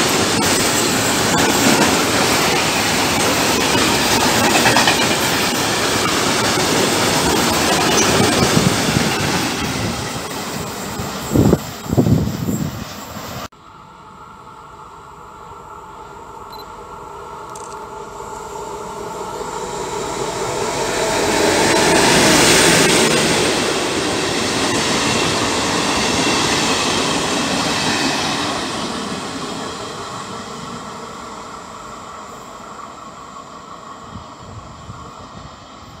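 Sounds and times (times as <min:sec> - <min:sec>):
freight train passing: 0:00.0 - 0:36.0
passenger train passing: 0:00.0 - 0:36.0.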